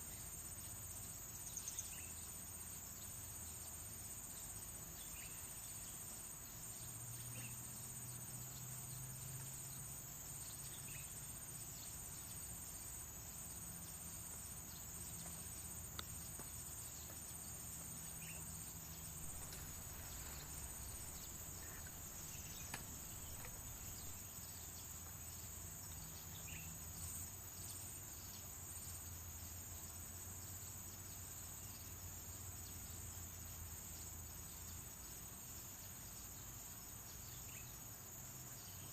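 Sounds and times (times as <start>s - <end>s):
faint low hum: 0.0s - 33.4s
crickets trilling: 0.0s - 38.9s.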